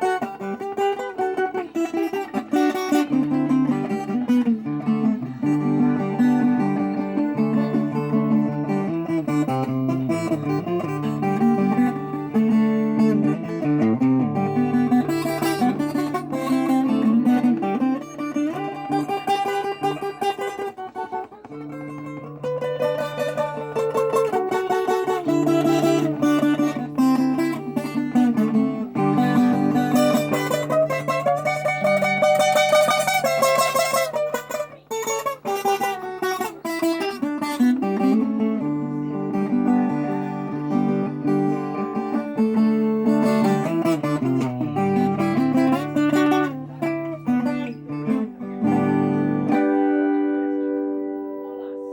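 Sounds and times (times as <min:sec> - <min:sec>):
fingerpicked guitar-like strings: 0:00.0 - 0:51.9.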